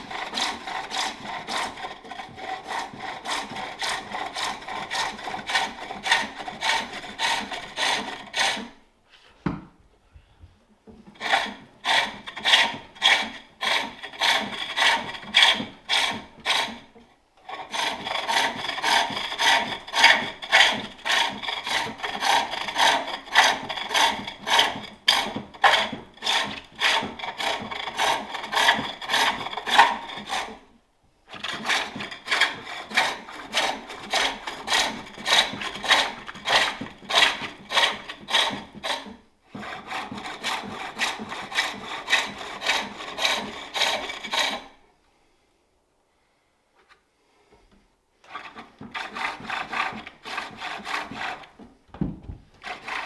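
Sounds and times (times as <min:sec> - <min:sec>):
lathe tool rasping on wood: 0:00.0 - 0:08.7, 0:11.2 - 0:16.9, 0:17.5 - 0:30.6, 0:31.4 - 0:44.7, 0:48.3 - 0:51.6, 0:52.6 - 0:53.0.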